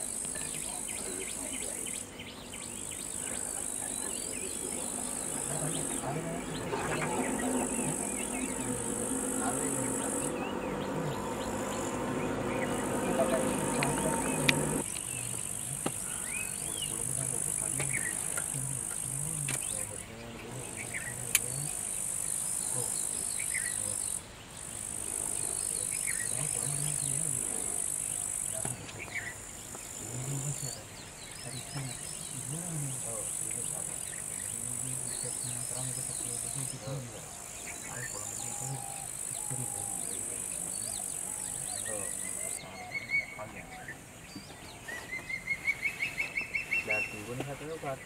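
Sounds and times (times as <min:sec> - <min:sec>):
high insect drone: 0:00.0 - 0:30.8, 0:31.4 - 0:42.6.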